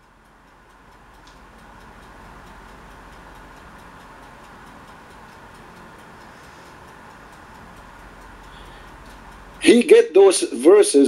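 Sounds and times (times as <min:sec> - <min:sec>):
low hum and hiss: 0:00.0 - 0:11.0
rapid ticking: 0:00.0 - 0:11.0.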